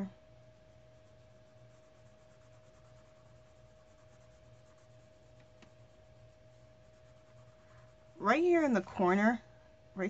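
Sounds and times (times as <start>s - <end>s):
colored pencil scratching on paper: 0.0s - 9.1s
steady hum: 0.0s - 10.0s.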